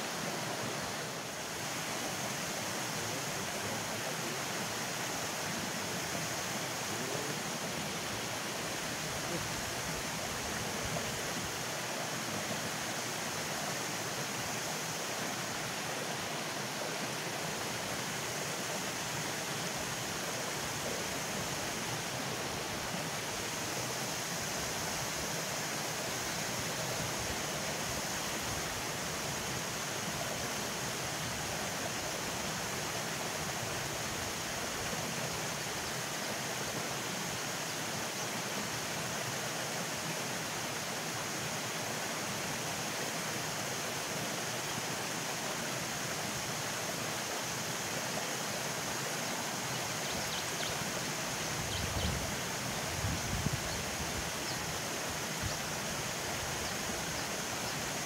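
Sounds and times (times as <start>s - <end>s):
water rushing over weir: 0.0s - 58.0s.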